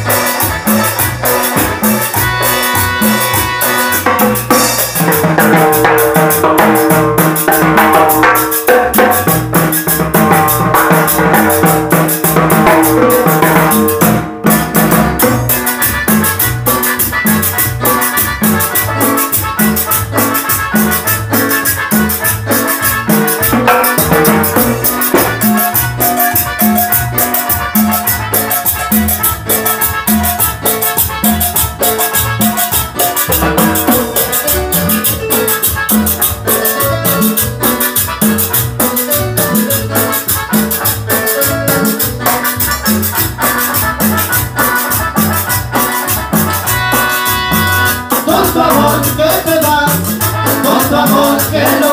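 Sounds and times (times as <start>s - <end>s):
drums and percussion beat: 0.0s - 51.9s
latin dance band playing: 0.0s - 51.9s.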